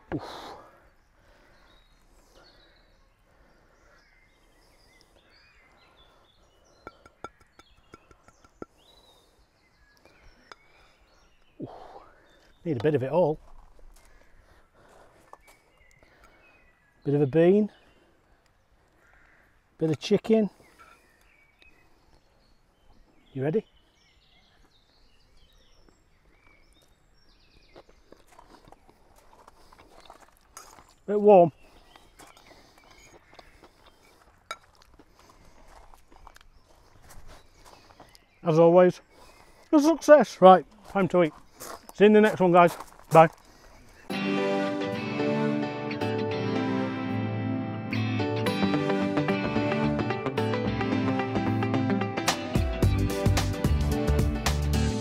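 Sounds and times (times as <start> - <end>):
distant birds chirping: 0.0 - 47.2.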